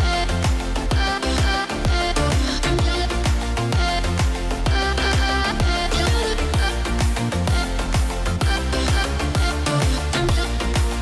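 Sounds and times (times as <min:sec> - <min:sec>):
dance music beat: 0:00.0 - 0:11.0
deep kick drum: 0:00.0 - 0:11.0.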